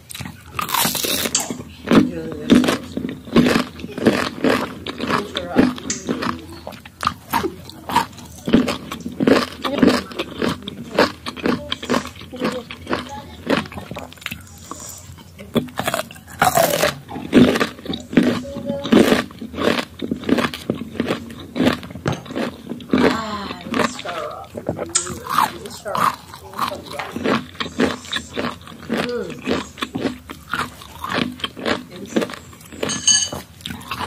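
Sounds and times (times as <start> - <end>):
crunchy chewing of mango: 0.0 - 34.0.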